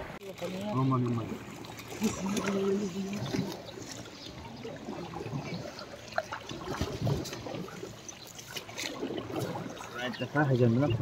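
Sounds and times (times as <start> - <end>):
floodwater trickling and lapping: 0.0 - 11.0
small splashes and knocks: 0.2 - 10.6.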